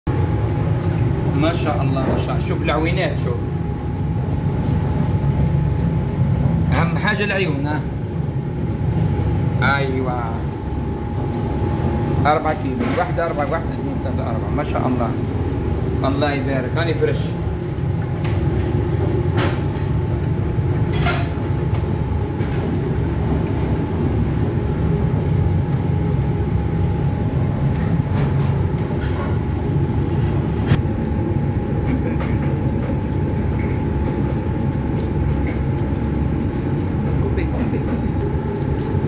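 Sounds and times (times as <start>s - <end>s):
constant whine: 0.1s - 39.0s
machinery rumble: 0.1s - 39.0s.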